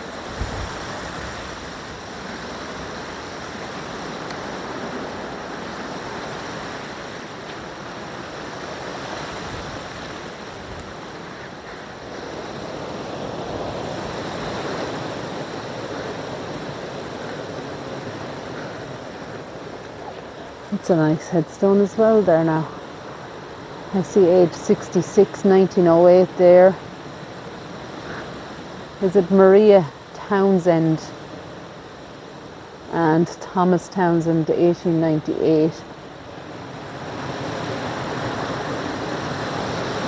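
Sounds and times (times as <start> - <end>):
wind blowing: 0.0 - 40.0.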